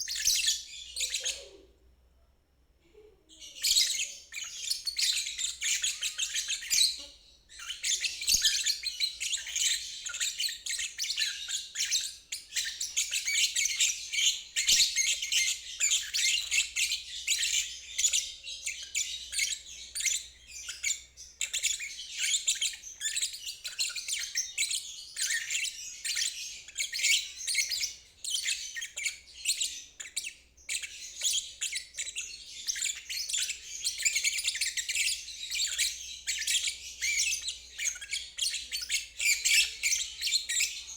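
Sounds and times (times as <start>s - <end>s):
lovebird twittering: 3.4s - 40.9s.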